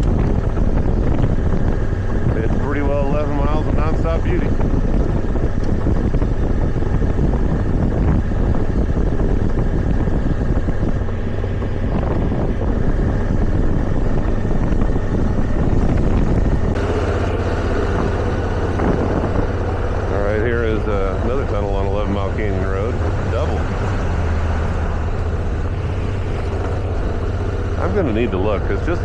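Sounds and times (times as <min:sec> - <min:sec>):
motorcycle engine running: 0:00.0 - 0:29.0
wind on microphone: 0:00.0 - 0:29.0.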